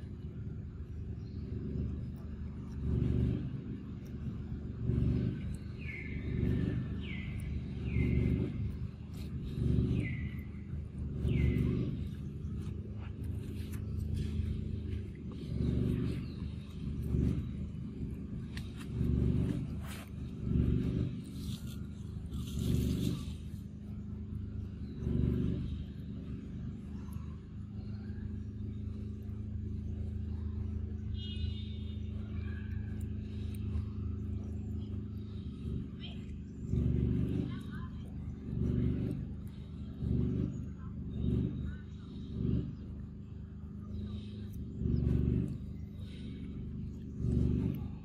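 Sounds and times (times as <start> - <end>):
engine humming: 0.0 - 48.0
pulsing low rumble: 0.0 - 48.0.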